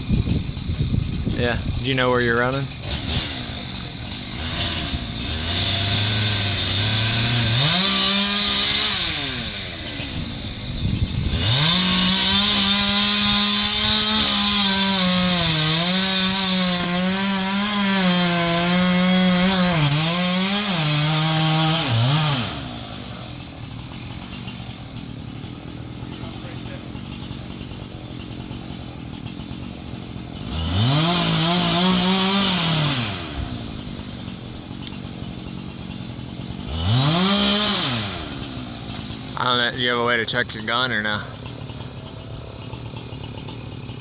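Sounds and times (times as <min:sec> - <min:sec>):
chainsaw cutting into trunk: 0:00.0 - 0:44.0.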